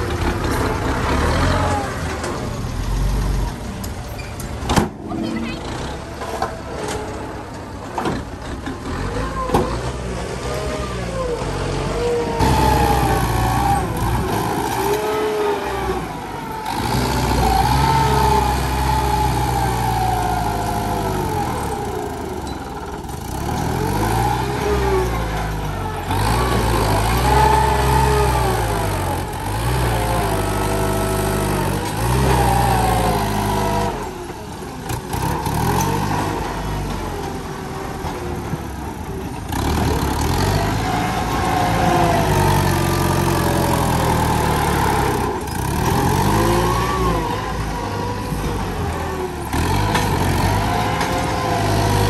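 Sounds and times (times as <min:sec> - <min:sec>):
diesel engines under load: 0:00.0 - 0:52.0.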